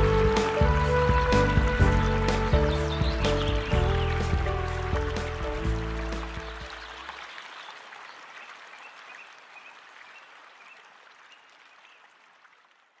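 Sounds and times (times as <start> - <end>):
flowing water hiss: 0.0 - 13.0.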